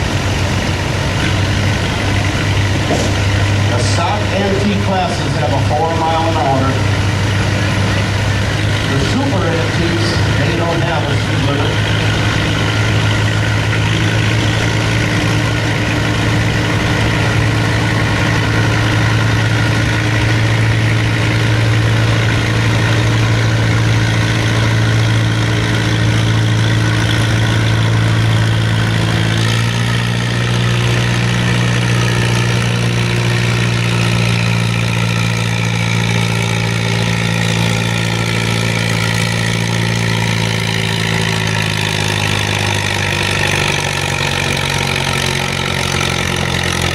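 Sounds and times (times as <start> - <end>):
large engine idling loudly: 0.0 - 46.9.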